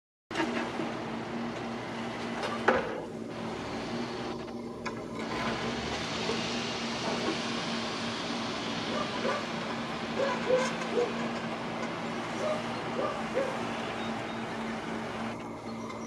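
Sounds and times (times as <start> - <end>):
excavator engine hum: 0.3 - 16.0.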